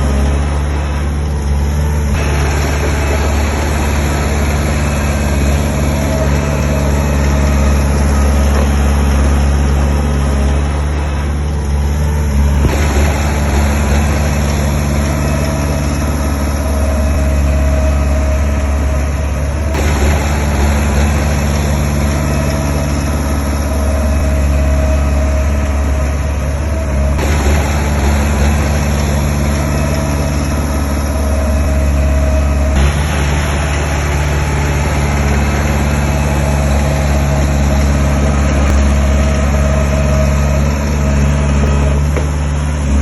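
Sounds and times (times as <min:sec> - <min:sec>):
diesel machine engine running: 0:00.0 - 0:43.0
rush of mechanical noise: 0:00.0 - 0:43.0.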